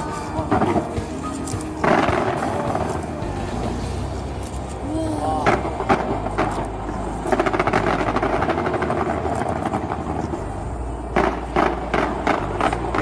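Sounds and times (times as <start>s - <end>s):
fireworks bangs: 0.0s - 4.8s, 5.4s - 13.0s
fireworks crackling: 0.0s - 13.0s.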